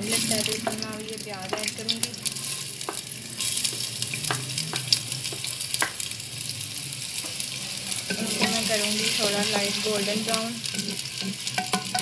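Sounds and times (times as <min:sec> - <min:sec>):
oil crackles and pops: 0:00.0 - 0:08.5, 0:09.6 - 0:12.0
onions sizzling in hot oil: 0:00.0 - 0:12.0.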